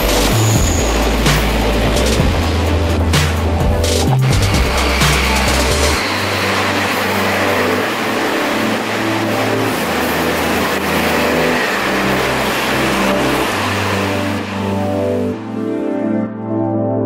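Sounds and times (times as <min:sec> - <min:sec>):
train passing at speed: 0:00.0 - 0:16.3
background music: 0:00.0 - 0:17.0.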